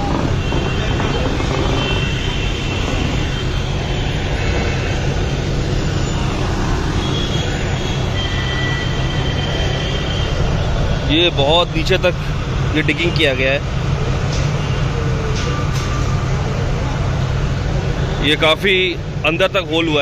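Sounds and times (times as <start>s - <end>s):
low engine drone: 0.0s - 20.0s
road traffic noise: 0.0s - 20.0s.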